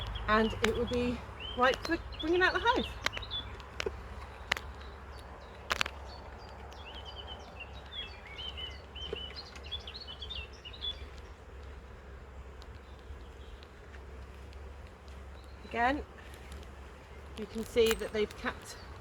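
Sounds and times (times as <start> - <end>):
bird chirping: 0.0 - 19.0
honeybees humming: 0.0 - 19.0.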